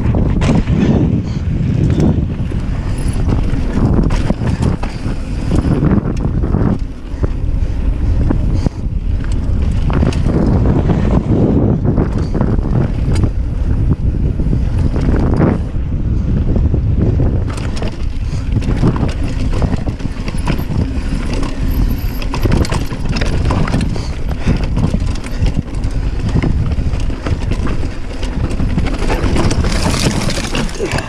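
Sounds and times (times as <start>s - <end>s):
bike tyres clattering over rocks: 0.0s - 7.6s, 8.4s - 13.9s, 17.2s - 31.0s
bike knocks and rattles: 0.0s - 31.0s
low wind rumble on microphone: 0.0s - 31.0s.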